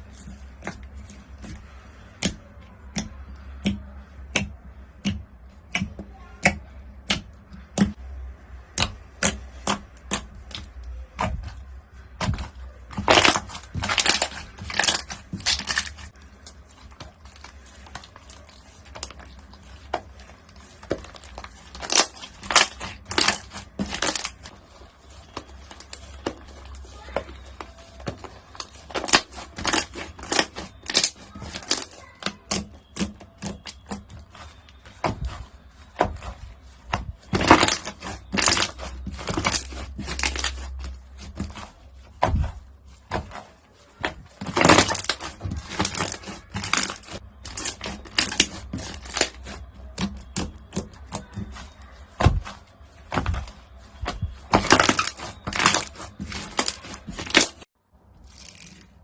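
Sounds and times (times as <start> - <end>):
crunchy slime crackling: 8.6 - 59.0.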